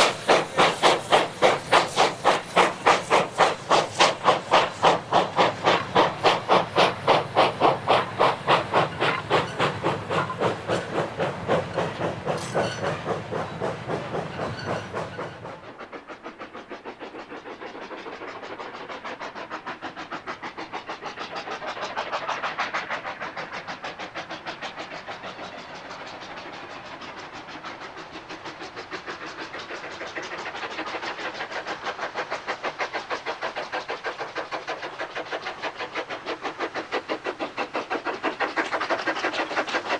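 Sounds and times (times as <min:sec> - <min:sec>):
steam hiss: 0:00.0 - 0:39.9
steam locomotive exhaust beats: 0:00.0 - 0:39.9.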